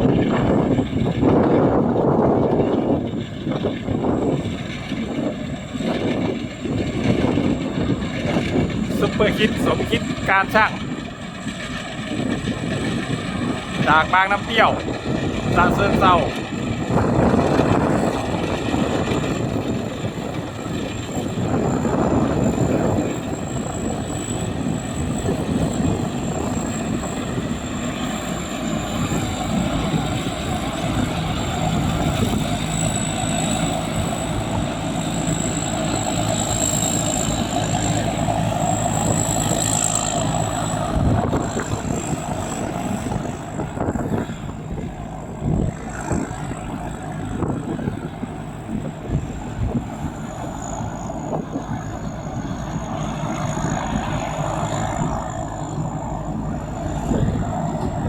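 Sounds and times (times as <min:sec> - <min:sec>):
combine harvester running: 0:00.0 - 0:58.0
high whine: 0:00.0 - 0:58.0.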